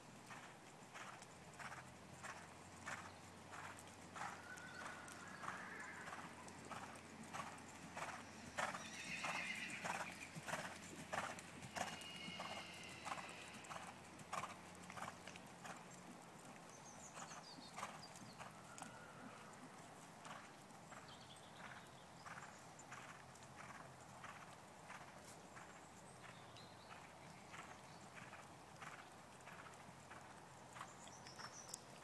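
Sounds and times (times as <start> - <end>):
horse hoofbeats cantering: 0.0 - 32.0.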